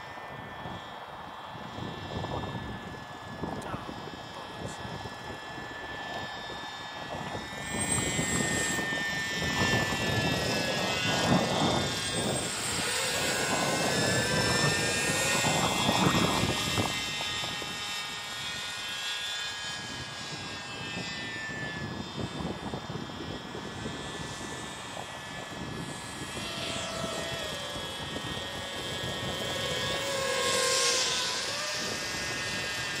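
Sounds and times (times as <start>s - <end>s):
model helicopter whine: 0.0s - 33.0s.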